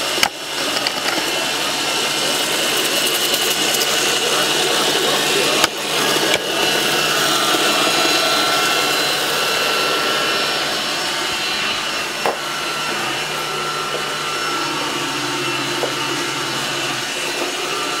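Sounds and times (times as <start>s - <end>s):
robot vacuum cleaner whirring: 0.0s - 18.0s.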